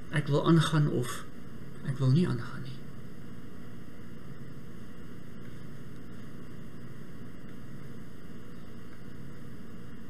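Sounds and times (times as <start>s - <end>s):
low hum: 0.0s - 10.0s
steady background hiss: 0.0s - 10.0s.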